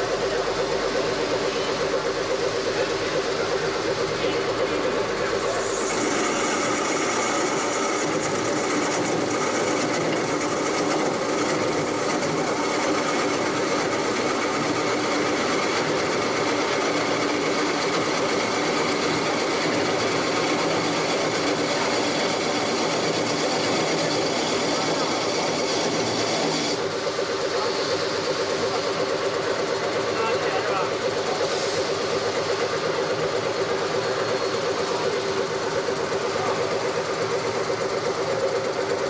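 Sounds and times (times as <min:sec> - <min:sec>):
lathe running: 0:00.0 - 0:39.0.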